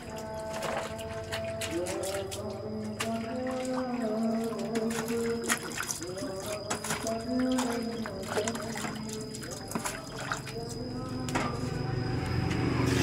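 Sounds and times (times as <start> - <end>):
water splashing in a steel bowl: 0.0 - 13.0.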